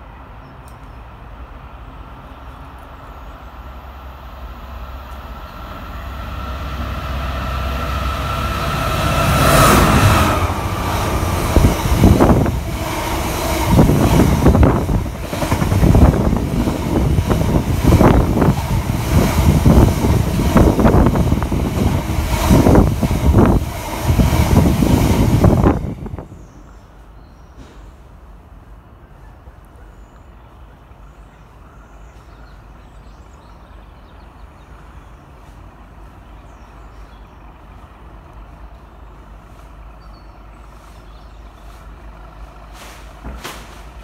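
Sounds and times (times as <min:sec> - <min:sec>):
diesel locomotive passing: 0:00.0 - 0:44.0.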